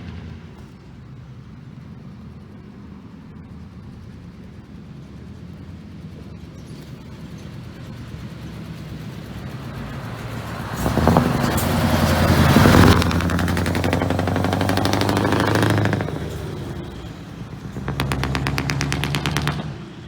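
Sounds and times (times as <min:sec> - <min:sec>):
truck engine with open exhaust: 0:00.0 - 0:20.0.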